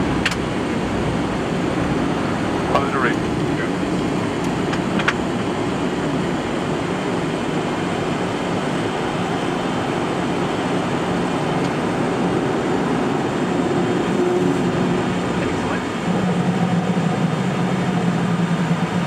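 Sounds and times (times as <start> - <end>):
aircraft cabin air and engine noise: 0.0 - 19.0
low hum: 0.8 - 19.0.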